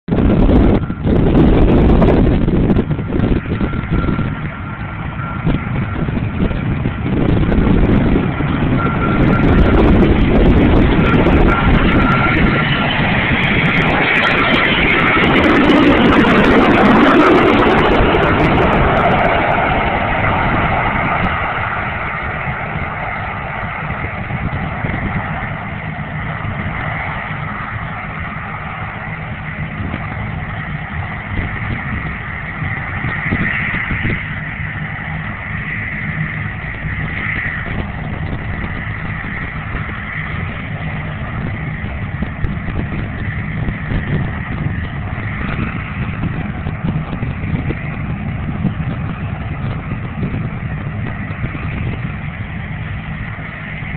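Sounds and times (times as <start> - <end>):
distant jet rumble with whine: 0.0 - 53.9
jet airliner passing low: 0.1 - 53.9.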